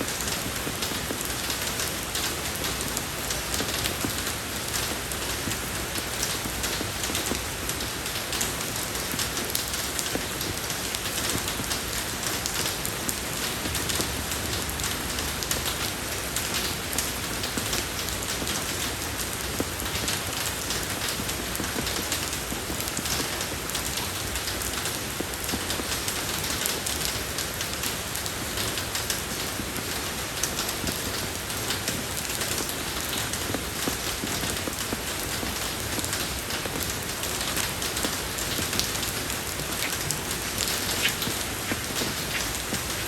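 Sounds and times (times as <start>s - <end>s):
rain falling on a road: 0.0s - 43.0s.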